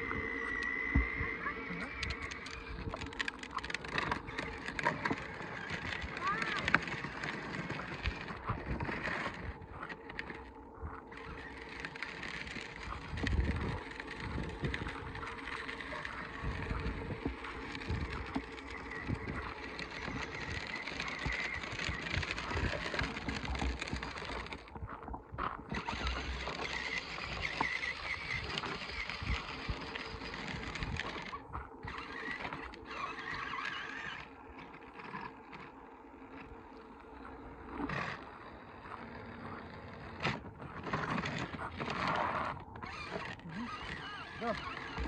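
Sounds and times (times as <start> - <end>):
small electric motor running: 0.0 - 24.8, 25.4 - 36.4, 37.7 - 45.0
plastic wheels crunching on gravel: 0.0 - 45.0.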